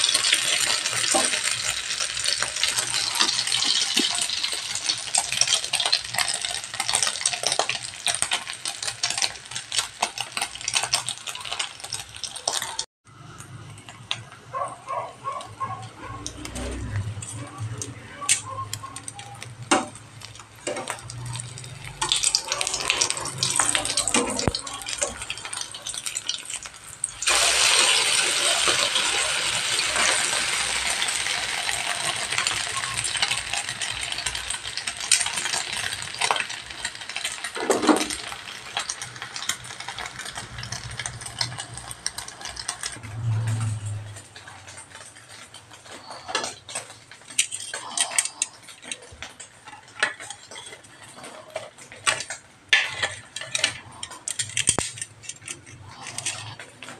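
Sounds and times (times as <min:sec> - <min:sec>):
food deep-frying in oil: 0:00.0 - 0:56.9.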